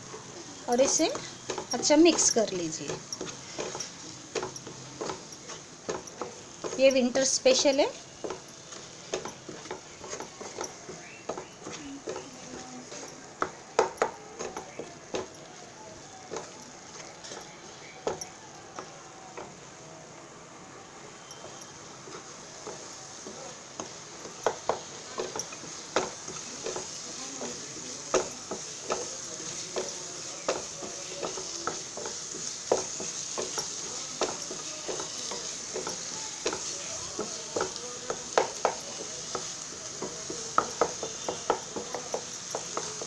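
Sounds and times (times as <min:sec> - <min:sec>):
paste sizzling in oil: 0:00.0 - 0:43.0
spatula scraping and tapping pan: 0:00.1 - 0:15.5, 0:16.3 - 0:19.5, 0:21.2 - 0:43.0.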